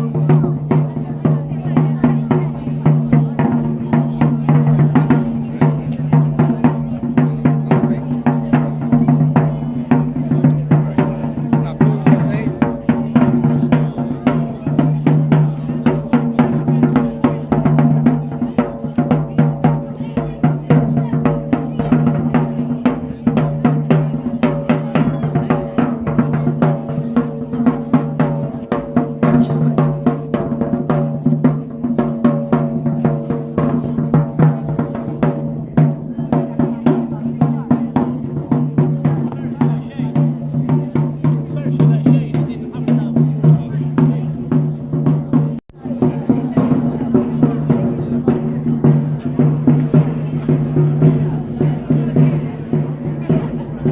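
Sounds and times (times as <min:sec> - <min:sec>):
drums beating fast rhythm: 0:00.0 - 0:53.9.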